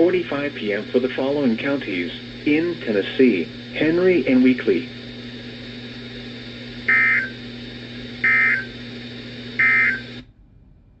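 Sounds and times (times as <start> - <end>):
radio hiss and hum: 0.0 - 10.3.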